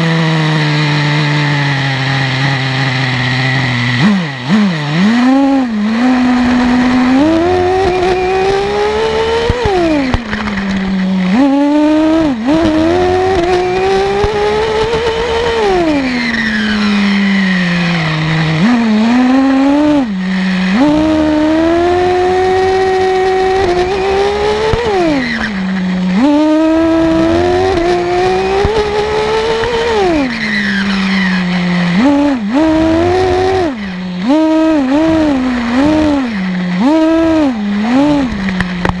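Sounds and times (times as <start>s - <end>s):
small nitro engine revving: 0.0s - 39.0s.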